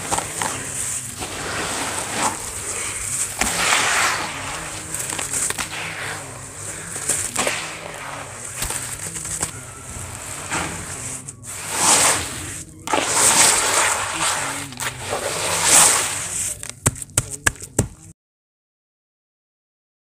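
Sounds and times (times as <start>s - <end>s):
hand raking through wet sand: 0.0s - 18.0s.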